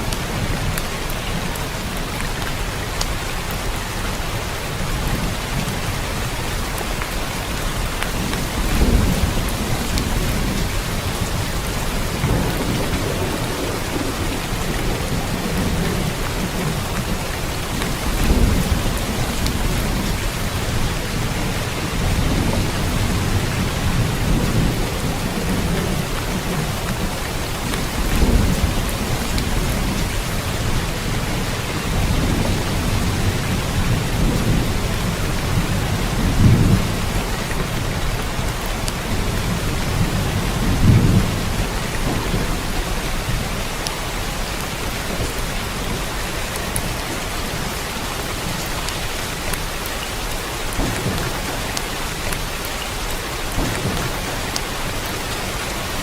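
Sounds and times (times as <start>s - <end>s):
heavy rain falling: 0.0s - 56.0s
thunder rumbling: 5.0s - 49.8s, 50.5s - 56.0s.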